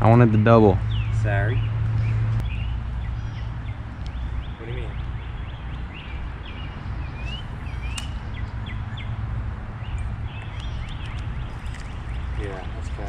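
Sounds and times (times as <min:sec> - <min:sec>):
steady low rumble: 0:00.0 - 0:13.0
small birds chirping: 0:00.4 - 0:13.0.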